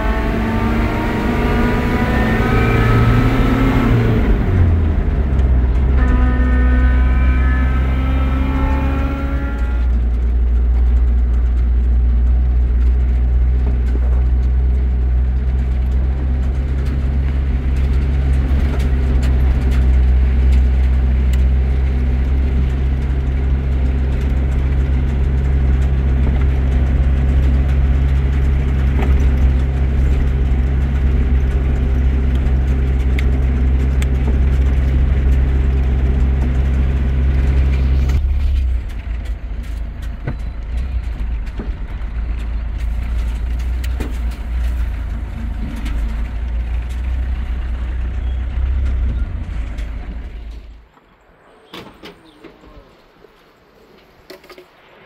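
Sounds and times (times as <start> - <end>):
engine droning: 0.0 - 55.0.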